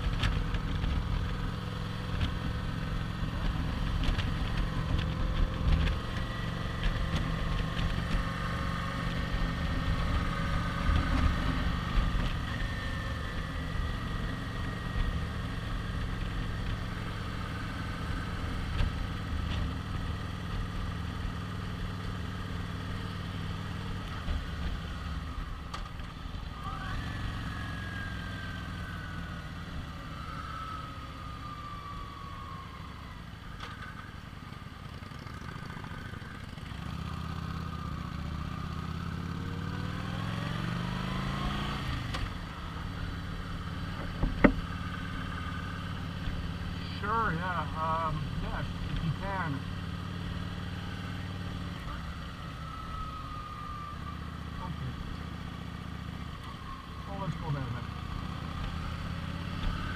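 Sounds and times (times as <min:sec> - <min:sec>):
motorcycle engine at road speed: 0:00.0 - 0:59.9.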